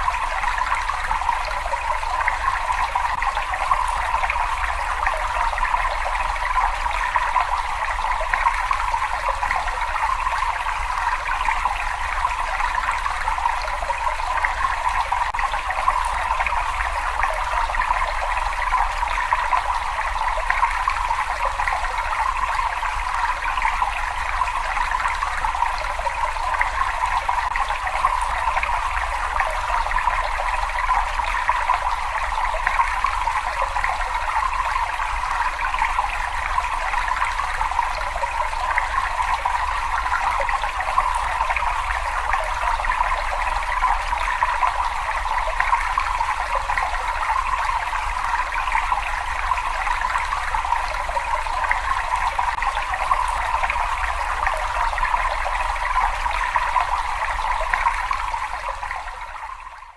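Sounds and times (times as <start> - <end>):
flowing water trickling: 0.0 - 59.9.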